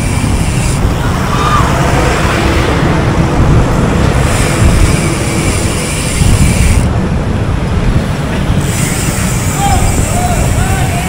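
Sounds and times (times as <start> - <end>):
car road and wind rumble: 0.0 - 11.0.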